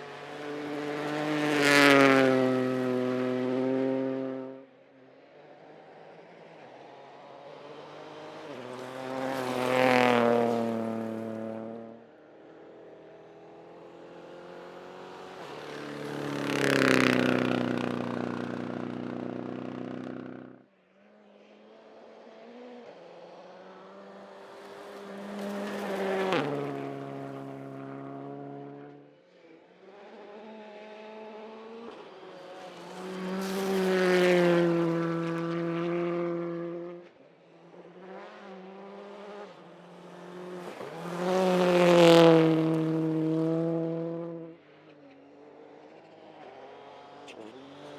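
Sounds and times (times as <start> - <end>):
rally cars passing at speed: 0.0 - 47.9.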